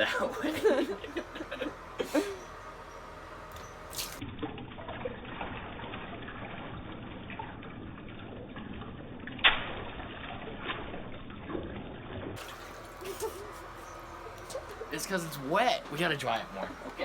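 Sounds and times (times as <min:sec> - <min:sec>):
water trickling from balloon: 0:00.0 - 0:17.0.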